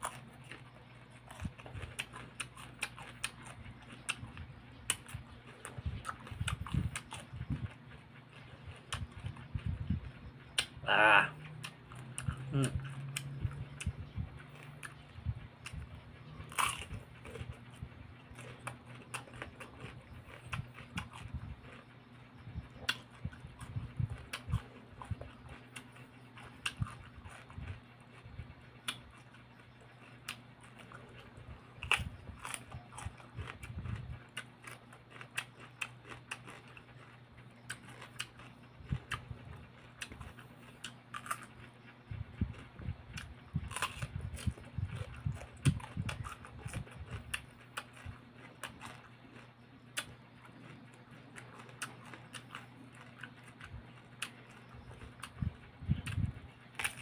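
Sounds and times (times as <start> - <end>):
faint low hum: 0.0 - 57.0
person chewing cucumber: 0.0 - 57.0.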